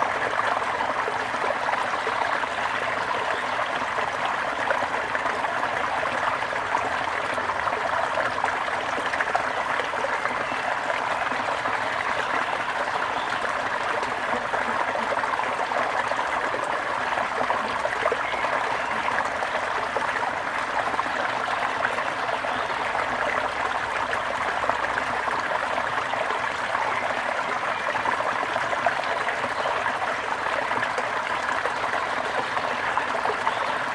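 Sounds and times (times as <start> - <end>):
stream trickling: 0.0 - 33.9.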